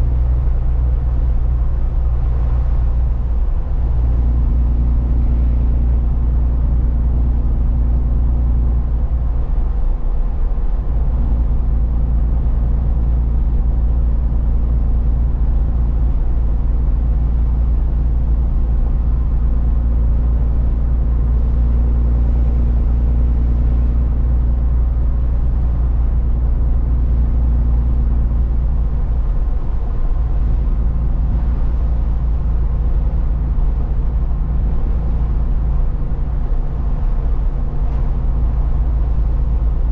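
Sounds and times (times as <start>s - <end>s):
truck engine and tyre noise: 0.0s - 39.9s.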